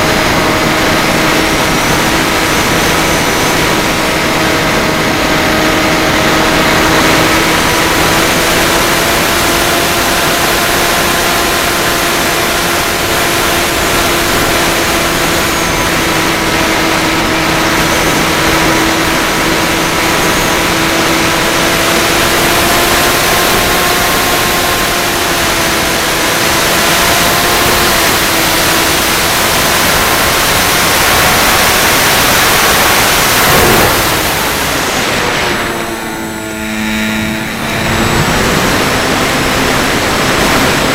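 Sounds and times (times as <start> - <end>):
drone motors whining: 0.0 - 40.9
heavy rushing noise: 0.0 - 40.9.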